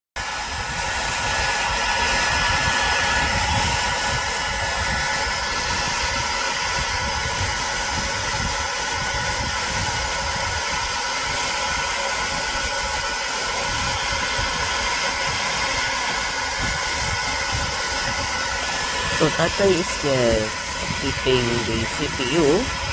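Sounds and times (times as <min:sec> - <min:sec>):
hair dryer blowing air: 0:00.2 - 0:22.9.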